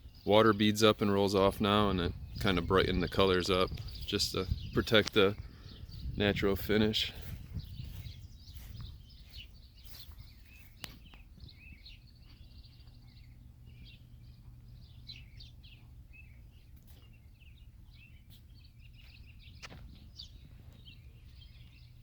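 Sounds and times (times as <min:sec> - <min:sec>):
steady low hum: 0:00.0 - 0:22.0
faint bird chirps: 0:02.1 - 0:22.0.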